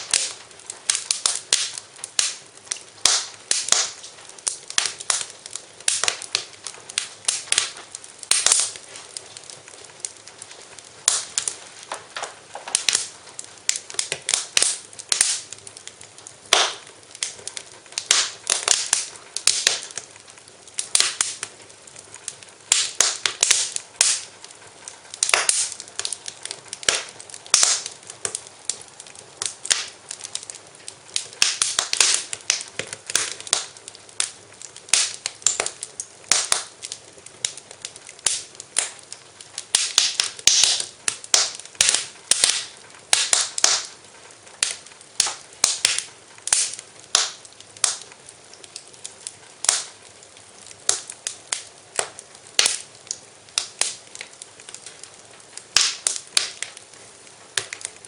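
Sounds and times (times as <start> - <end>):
faint hiss: 0.0 - 58.0
fire crackling and popping: 0.0 - 58.0.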